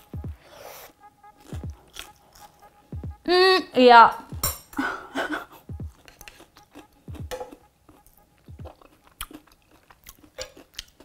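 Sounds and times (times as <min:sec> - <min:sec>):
person chewing food: 0:00.0 - 0:03.2, 0:05.3 - 0:11.0.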